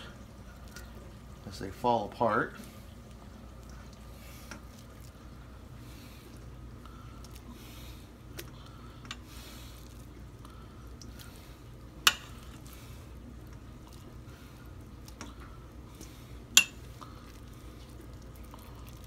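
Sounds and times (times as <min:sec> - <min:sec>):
soft squishing of food: 0:00.0 - 0:19.0.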